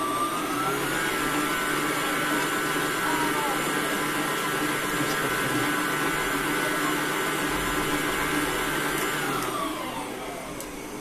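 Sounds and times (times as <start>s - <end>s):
stand mixer motor whine: 0.0s - 11.0s
whisk churning cream: 0.1s - 10.0s.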